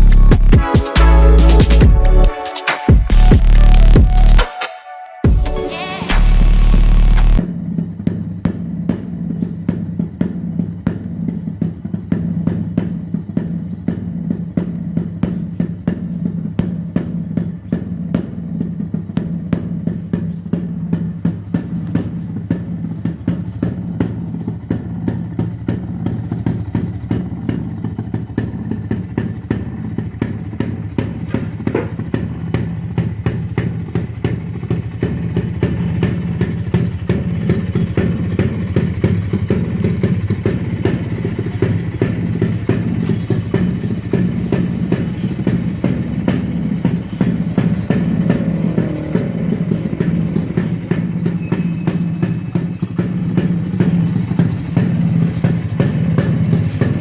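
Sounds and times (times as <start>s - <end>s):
motorcycle engine idling: 0.0s - 4.4s, 5.2s - 57.0s.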